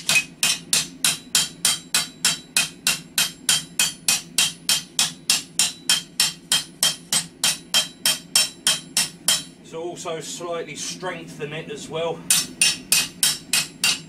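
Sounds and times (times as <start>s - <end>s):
hammer striking steel on anvil: 0.0s - 9.6s, 12.3s - 14.0s.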